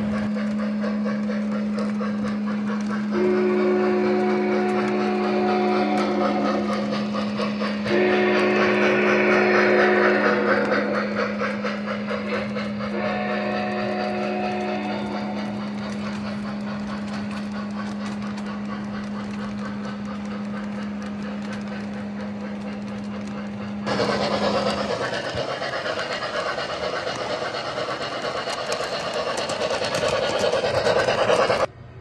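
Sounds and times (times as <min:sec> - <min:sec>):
model locomotive rhythmic clatter: 0:00.0 - 0:32.0
model train cars rolling hum: 0:00.0 - 0:32.0.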